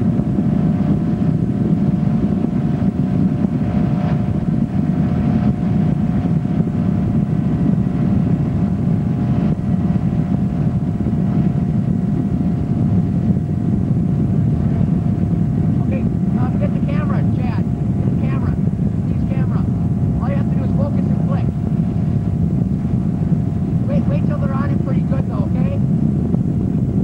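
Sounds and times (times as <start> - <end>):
motorboat engine running: 0.0 - 27.0
wind buffeting microphone: 0.0 - 27.0.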